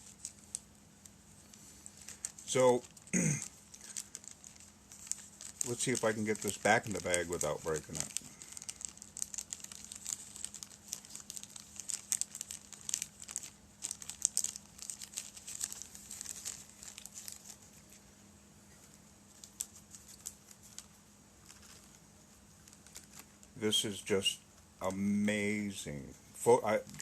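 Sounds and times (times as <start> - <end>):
plastic bag crinkling: 0.0 - 18.1, 18.7 - 24.1.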